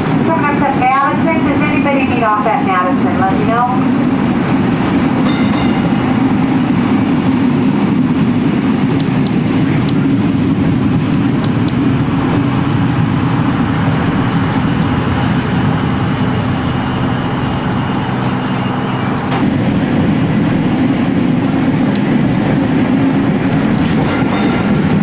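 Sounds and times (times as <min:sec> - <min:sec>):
steel wheels rolling on rail: 0:00.0 - 0:25.0
traction motor hum: 0:03.1 - 0:25.0.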